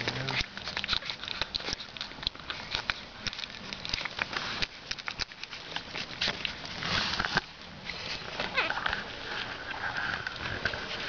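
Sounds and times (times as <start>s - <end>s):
puppies making small clicks: 0.0s - 10.8s.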